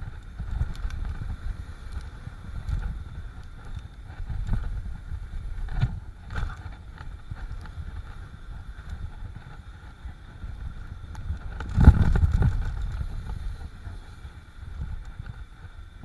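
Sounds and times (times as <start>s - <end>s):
bike rattle: 0.0s - 16.0s
mountain bike rumbling on dirt: 0.0s - 16.0s
wind buffeting microphone: 0.0s - 16.0s.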